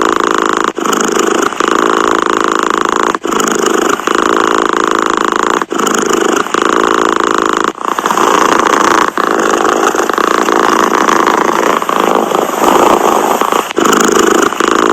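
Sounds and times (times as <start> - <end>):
cat purring: 0.0 - 14.9.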